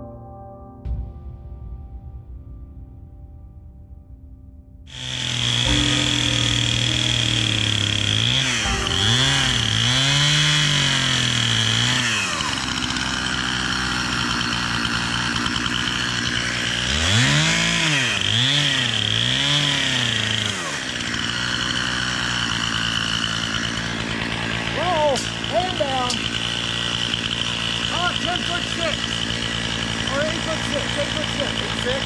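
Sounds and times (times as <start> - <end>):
chainsaw engine revving: 4.9 - 32.0.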